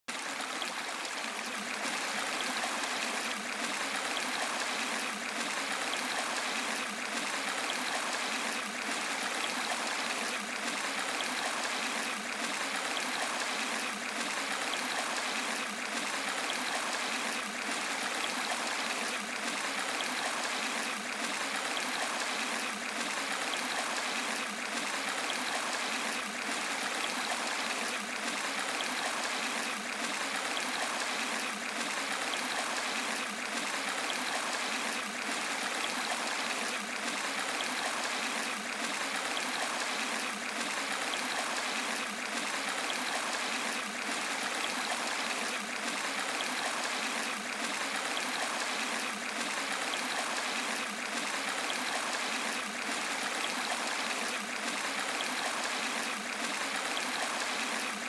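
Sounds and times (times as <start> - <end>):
stream rushing over stones: 0.1 - 58.0.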